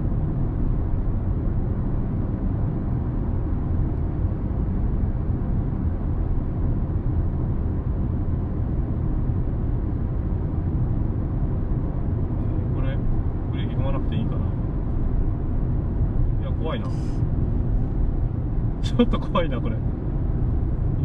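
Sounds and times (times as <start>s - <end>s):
road and tyre noise in car: 0.0s - 21.0s.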